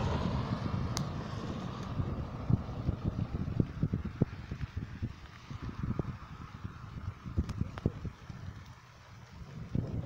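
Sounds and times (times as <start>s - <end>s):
storm wind blowing: 0.0s - 10.0s
wind buffeting microphone: 0.0s - 10.0s.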